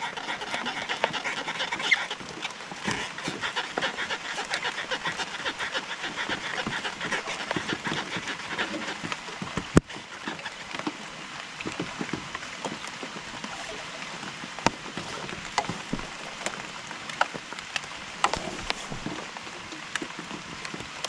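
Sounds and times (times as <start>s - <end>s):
rain drops ticking on wood: 0.0s - 21.0s.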